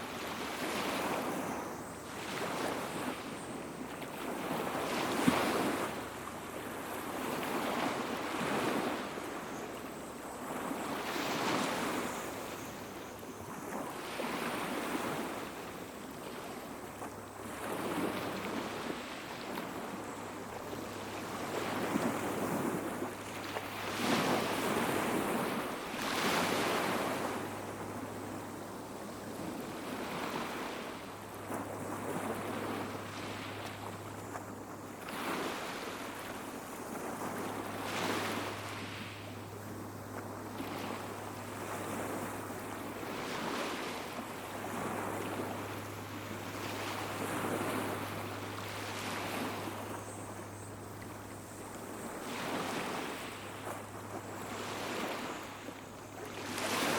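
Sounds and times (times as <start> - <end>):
small sea waves washing onto beach: 0.0 - 56.9.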